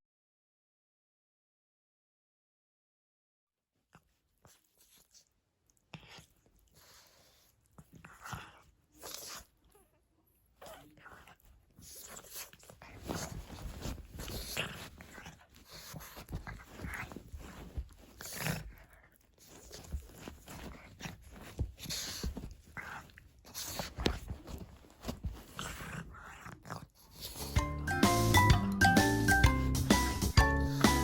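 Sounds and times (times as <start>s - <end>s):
dog breathing and snuffling: 4.0s - 28.7s, 29.3s - 31.0s.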